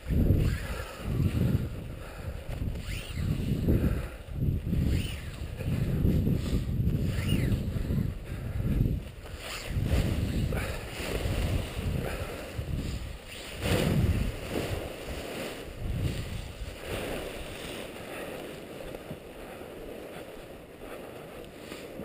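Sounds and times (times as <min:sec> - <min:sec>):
nylon fabric rustling: 0:00.0 - 0:03.6, 0:04.6 - 0:07.9, 0:08.9 - 0:22.0
wind buffeting microphone: 0:00.0 - 0:22.0.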